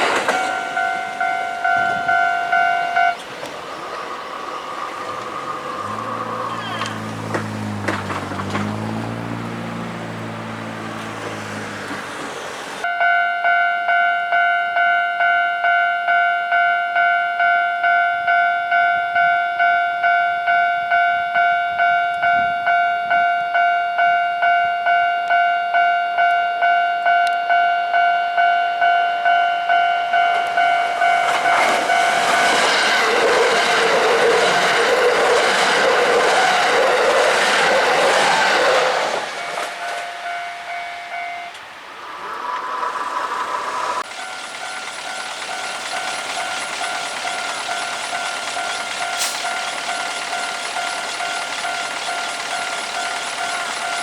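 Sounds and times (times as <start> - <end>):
level-crossing warning bell dinging: 0.0 - 42.3, 42.9 - 54.0
electric train passing: 0.0 - 54.0.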